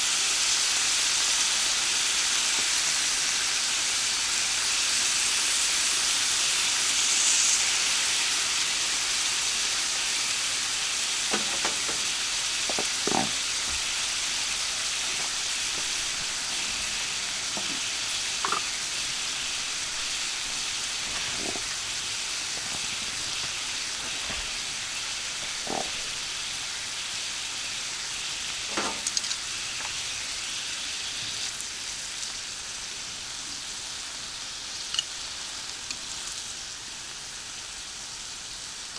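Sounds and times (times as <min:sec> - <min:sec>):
meat sizzling on a griddle: 0:00.0 - 0:38.9.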